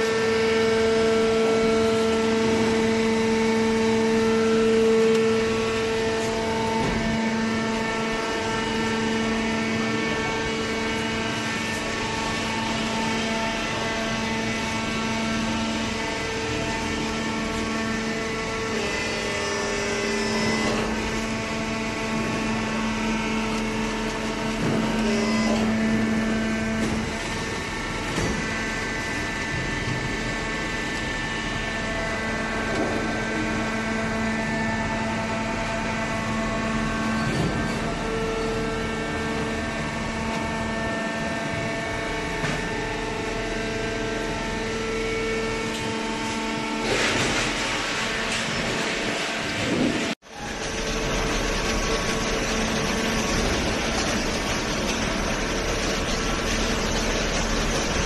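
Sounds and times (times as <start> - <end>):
hydraulic pump motor humming: 0.0 - 58.0.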